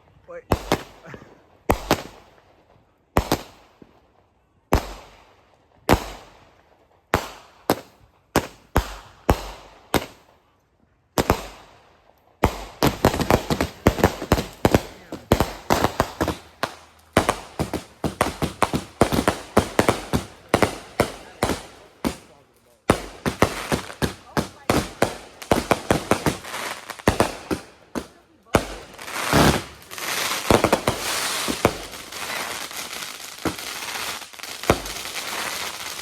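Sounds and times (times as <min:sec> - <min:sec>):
fireworks crackling barrage: 0:00.0 - 0:10.5, 0:11.1 - 0:36.0
fireworks banging: 0:00.4 - 0:02.4, 0:03.1 - 0:03.9, 0:07.1 - 0:10.3, 0:11.2 - 0:11.7, 0:12.4 - 0:36.0.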